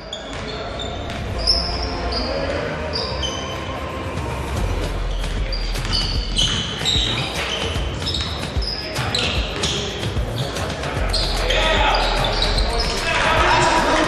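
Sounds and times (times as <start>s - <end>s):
sneakers squeaking on hardwood: 0.0s - 3.5s, 5.1s - 13.2s
voices in echoing hall: 0.0s - 14.0s.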